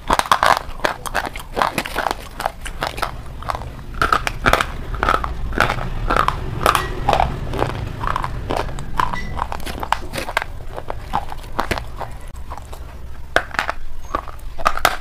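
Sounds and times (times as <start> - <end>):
chalk crunching in mouth: 0.0 - 15.0
wet mouth sounds: 0.0 - 15.0.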